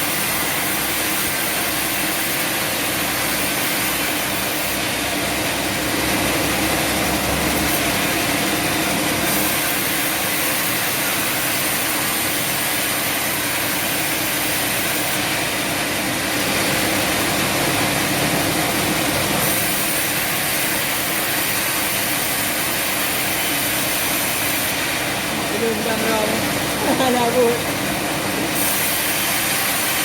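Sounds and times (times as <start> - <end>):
sawmill machinery hum and hiss: 0.0 - 30.0.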